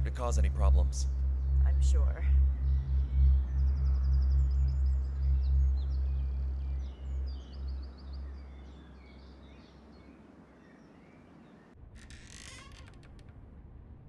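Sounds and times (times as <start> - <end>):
birds chirping: 0.0 - 11.8
low steady drone: 0.0 - 11.8.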